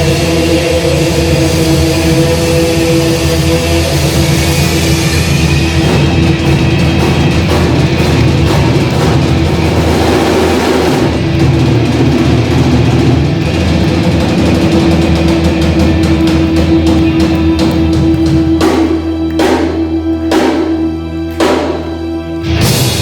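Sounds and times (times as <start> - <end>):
bass guitar: 0.0 - 23.0
cymbal crashes: 0.0 - 23.0
drum kit: 0.0 - 23.0
electric guitar: 0.0 - 23.0.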